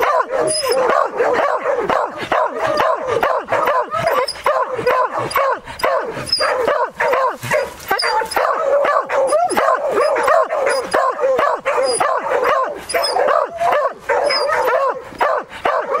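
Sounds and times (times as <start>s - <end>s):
hounds baying: 0.0s - 16.0s.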